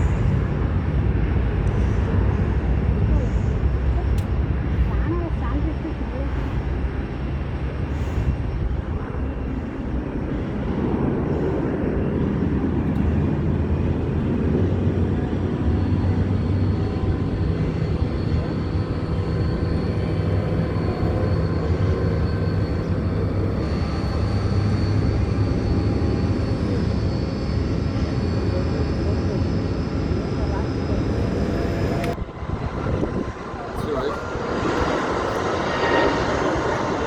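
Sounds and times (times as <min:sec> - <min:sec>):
high turbine whine: 0:00.0 - 0:37.0
jet engines rumbling: 0:00.0 - 0:37.0.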